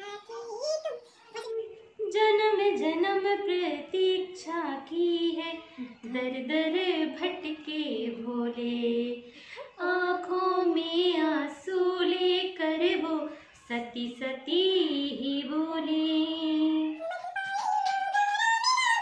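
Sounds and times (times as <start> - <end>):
woman and girl singing: 0.0 - 19.0.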